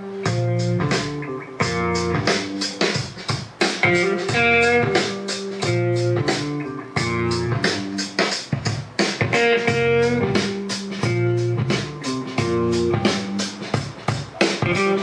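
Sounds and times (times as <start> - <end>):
guitar music with drumbeat: 0.0 - 15.0.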